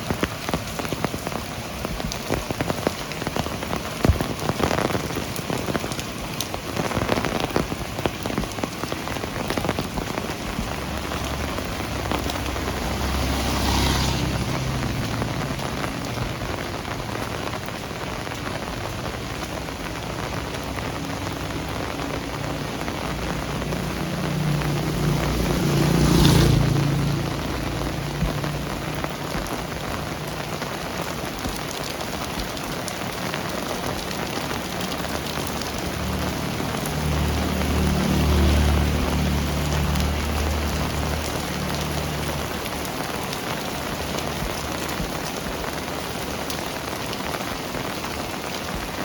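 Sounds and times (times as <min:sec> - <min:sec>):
rain pattering: 0:00.0 - 0:49.0.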